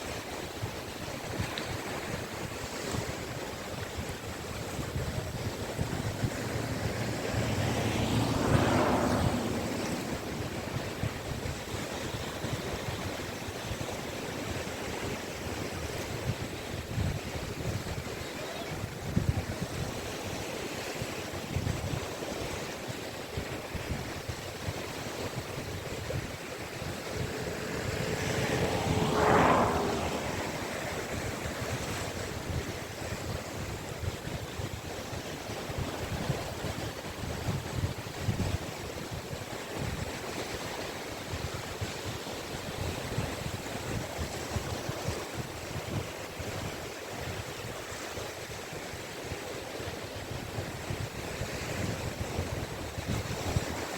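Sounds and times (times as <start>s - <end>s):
waves breaking on beach: 0.0s - 53.9s
wind buffeting microphone: 0.0s - 53.9s.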